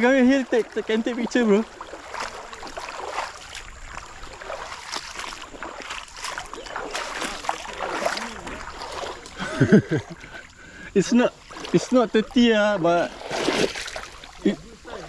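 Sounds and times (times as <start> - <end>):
small splashes: 0.0 - 15.0
stream water running: 0.0 - 15.0.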